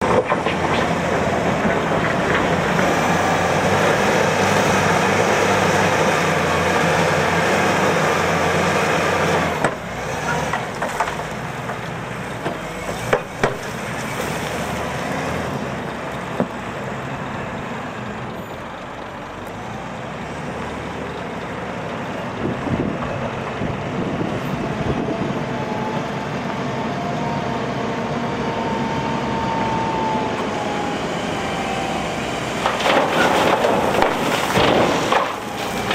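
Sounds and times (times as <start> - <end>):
heavy diesel engine under load: 0.0 - 35.9.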